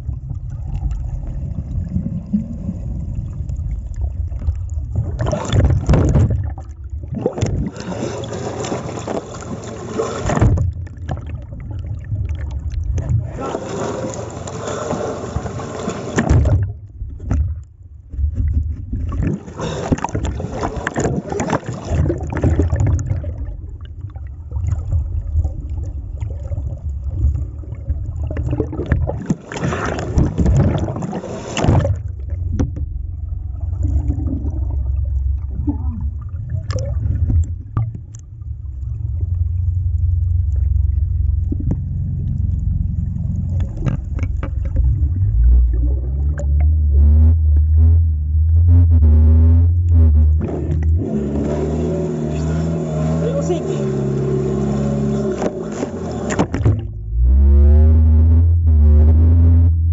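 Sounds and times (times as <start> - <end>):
sea water splashing and sloshing: 0.0 - 48.6, 49.8 - 57.3
muffled low underwater rumble: 0.0 - 59.9.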